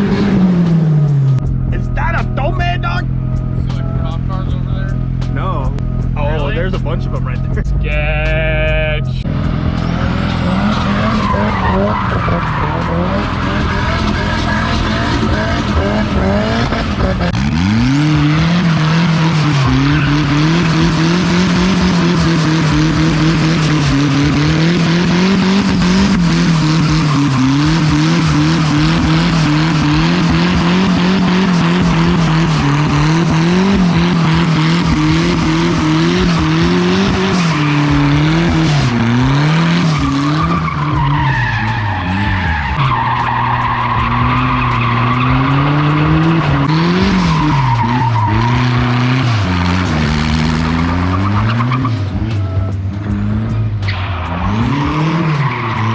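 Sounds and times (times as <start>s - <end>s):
turbocharged engine revving: 0.0s - 55.9s
tyres spinning and skidding: 9.2s - 55.9s.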